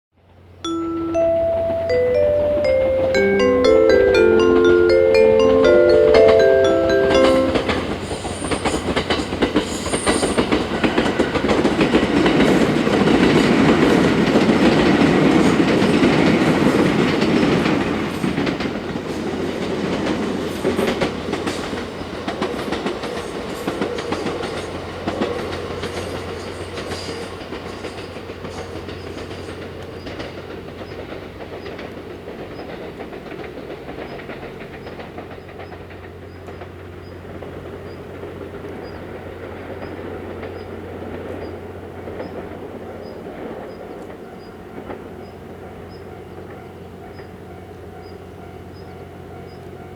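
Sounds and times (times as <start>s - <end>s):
electric train passing: 0.7s - 49.9s.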